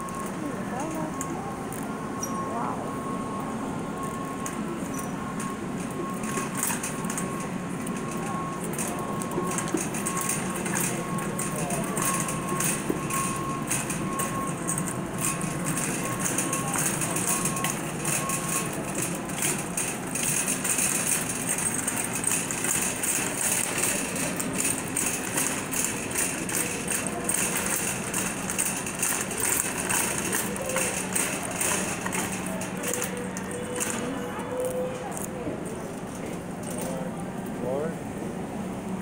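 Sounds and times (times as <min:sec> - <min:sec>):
shopping cart rolling and rattling: 0:00.0 - 0:37.9
store background hum: 0:00.0 - 0:39.0.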